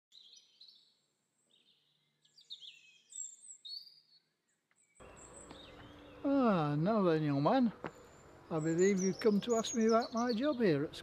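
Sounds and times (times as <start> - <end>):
songbirds chirping: 0.1 - 11.0.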